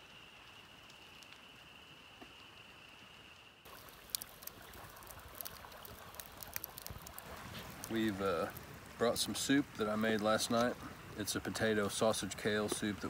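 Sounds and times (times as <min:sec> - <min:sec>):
campfire hissing and crackling: 0:00.0 - 0:13.0
creek running faintly: 0:00.0 - 0:13.0.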